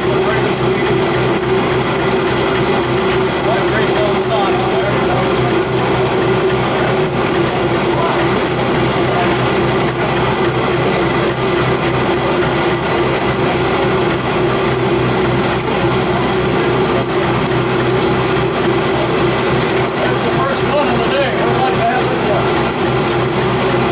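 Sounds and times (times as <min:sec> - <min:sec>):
grist mill machinery humming: 0:00.0 - 0:23.9.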